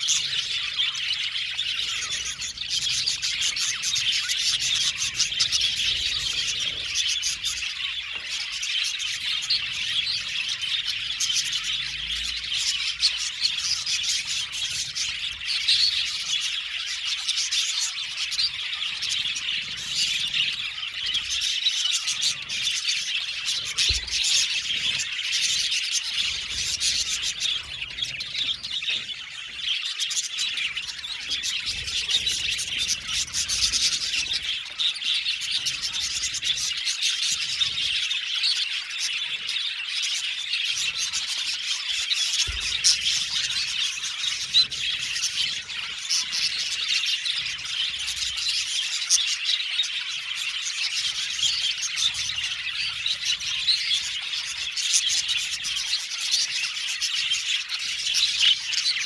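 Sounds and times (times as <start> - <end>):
flock of budgerigars chirping: 0.0 - 59.0.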